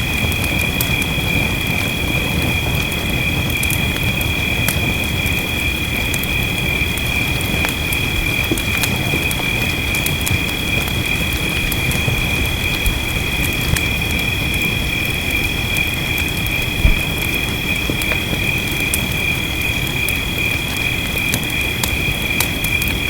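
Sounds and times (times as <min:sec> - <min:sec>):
chorus of night creatures: 0:00.0 - 0:23.0
fireplace crackling and popping: 0:00.0 - 0:23.0
rain hissing: 0:00.0 - 0:23.0.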